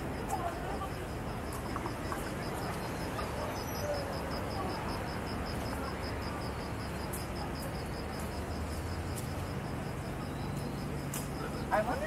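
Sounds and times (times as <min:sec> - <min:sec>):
insect chirping: 0:00.0 - 0:12.0
street traffic hum: 0:00.0 - 0:12.0.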